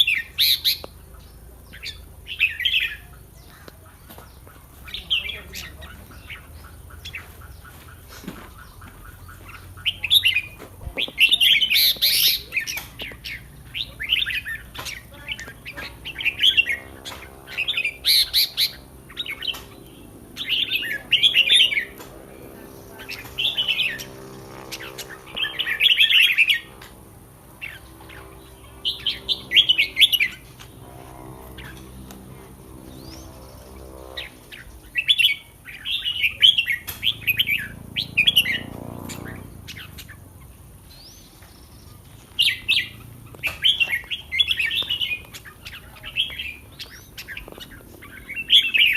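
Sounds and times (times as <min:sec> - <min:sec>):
bird singing: 0:00.0 - 0:48.9.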